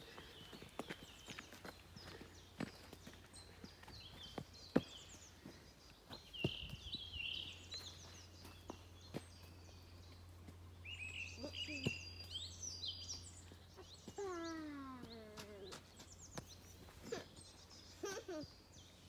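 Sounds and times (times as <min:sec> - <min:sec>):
songbirds chirping and trilling: 0:00.0 - 0:19.0.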